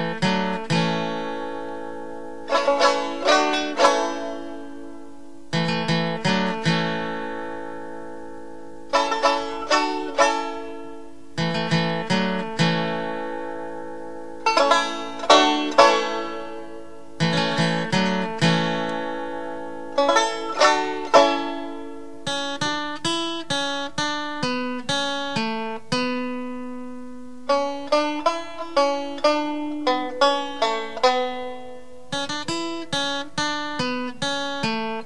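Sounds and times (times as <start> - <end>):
plucked string instrument: 0.0 - 35.0.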